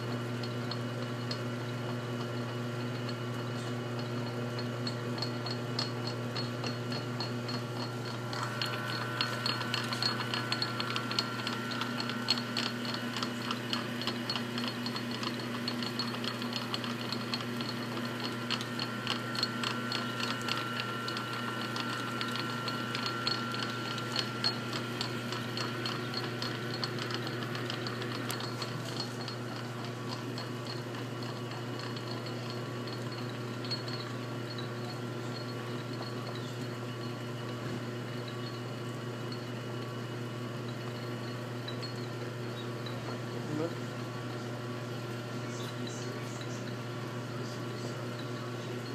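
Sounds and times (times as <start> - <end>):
metal lathe motor hum: 0.0 - 48.9
rapid ticking and high whine: 0.1 - 48.9.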